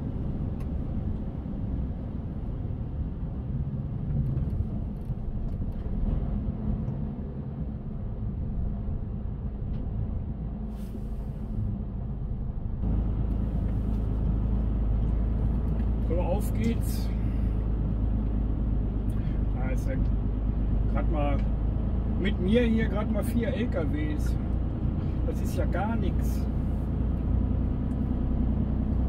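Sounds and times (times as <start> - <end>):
truck diesel engine rumbling: 0.0 - 29.0.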